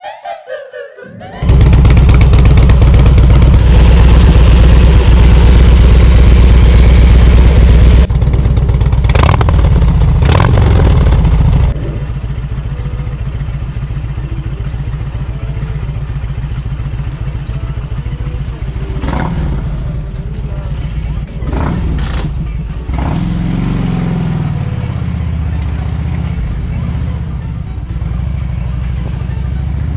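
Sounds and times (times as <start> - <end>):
motorcycle engine running: 1.4 - 29.9.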